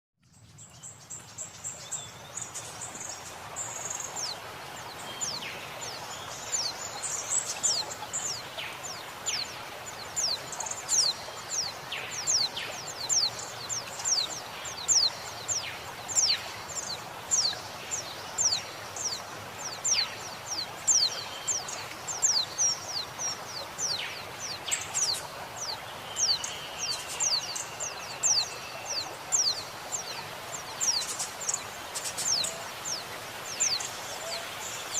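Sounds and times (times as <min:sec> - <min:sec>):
flowing water: 0:00.3 - 0:34.9.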